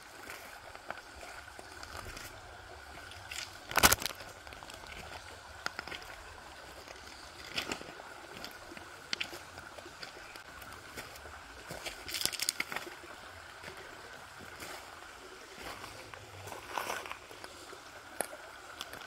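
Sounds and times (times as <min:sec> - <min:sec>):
creek trickling over stones: 0:00.0 - 0:19.0
footsteps on cobbles: 0:00.1 - 0:13.0, 0:15.6 - 0:19.0.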